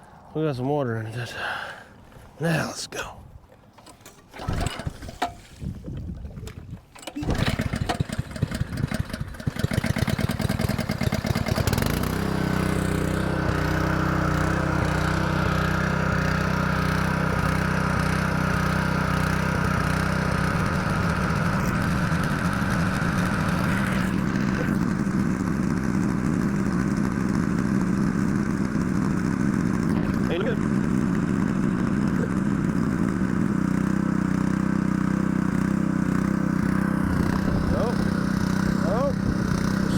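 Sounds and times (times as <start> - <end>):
small engine running: 3.8 - 5.6, 6.9 - 39.9
engine pull-start: 3.8 - 5.8, 6.5 - 15.7, 18.6 - 39.9.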